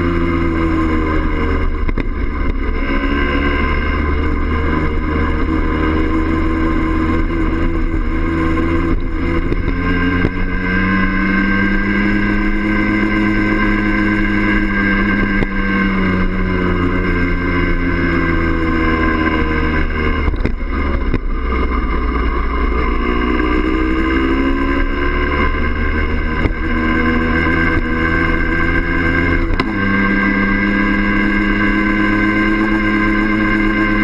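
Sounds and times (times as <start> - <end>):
two-stroke motorcycle engine: 0.0 - 34.0.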